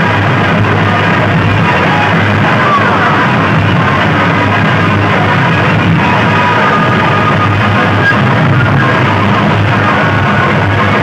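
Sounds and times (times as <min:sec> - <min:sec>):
loud bass-heavy music from loudspeakers: 0:00.0 - 0:11.0.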